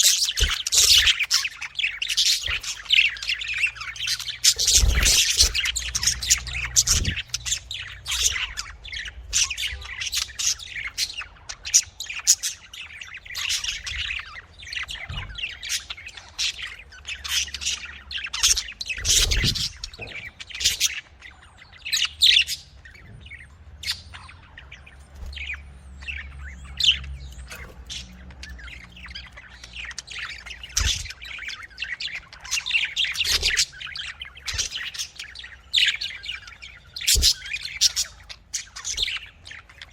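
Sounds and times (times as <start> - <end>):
budgies chirping and squawking: 0.0 - 39.9.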